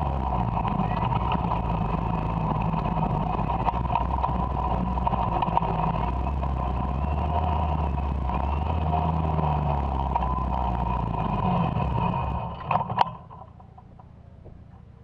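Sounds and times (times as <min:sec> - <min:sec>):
electric motor and drivetrain whine: 0:00.0 - 0:15.0
road and wind rumble: 0:00.0 - 0:15.0.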